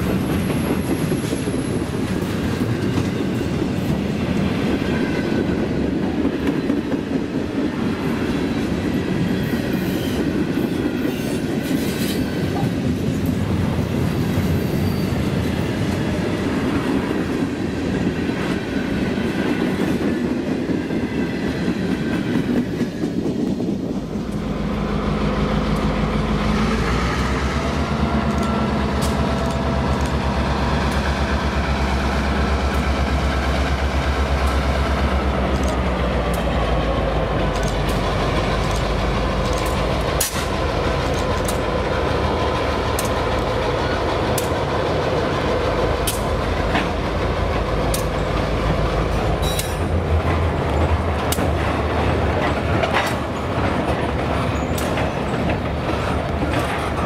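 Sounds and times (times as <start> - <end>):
diesel locomotive drone: 0.0 - 57.0
freight cars wheel-on-rail noise: 0.0 - 57.0
wheels clacking over rail joints: 0.0 - 57.0.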